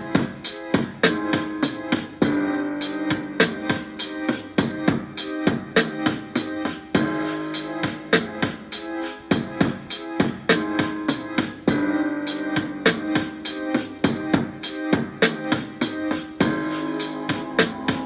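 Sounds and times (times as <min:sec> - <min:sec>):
drum machine beat: 0:00.0 - 0:18.0
held keyboard chords: 0:00.0 - 0:18.0.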